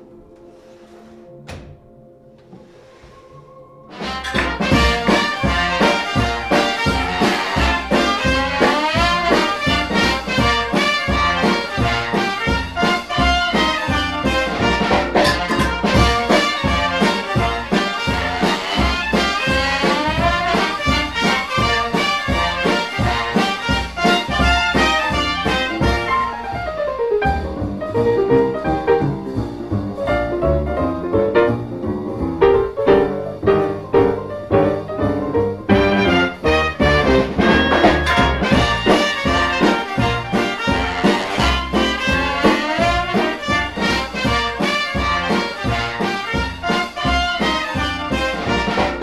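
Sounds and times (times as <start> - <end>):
brass-led jazz music: 3.9 - 49.0.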